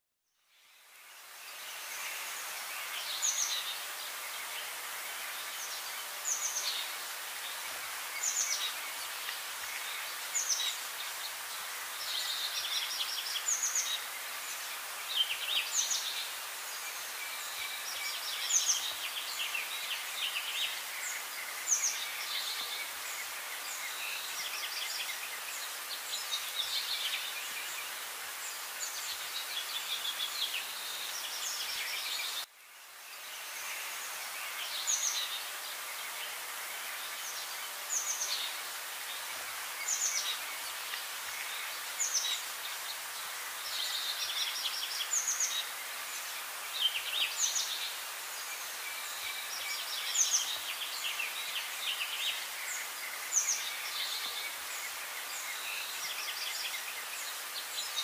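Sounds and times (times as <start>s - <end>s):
steady background hiss: 0.4s - 58.0s.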